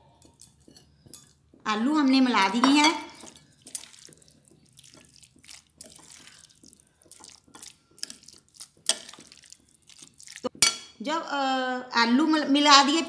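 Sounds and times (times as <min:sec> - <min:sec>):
spoon stirring wet food mixture: 0:00.0 - 0:11.0.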